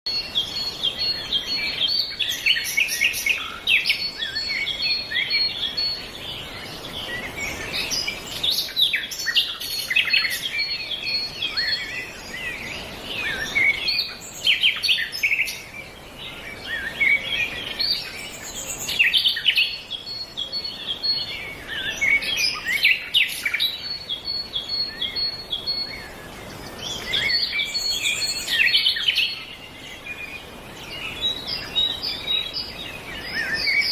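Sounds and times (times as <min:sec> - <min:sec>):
birds chirping and singing: 0:00.1 - 0:33.9.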